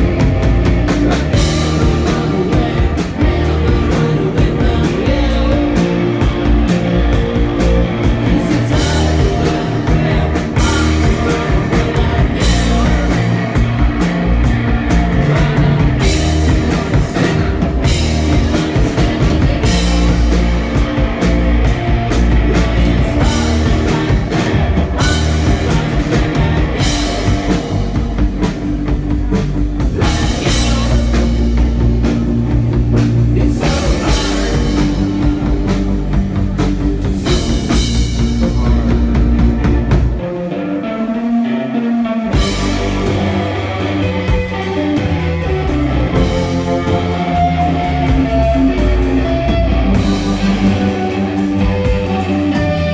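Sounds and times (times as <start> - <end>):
rock band playing loudly: 0.0 - 52.9.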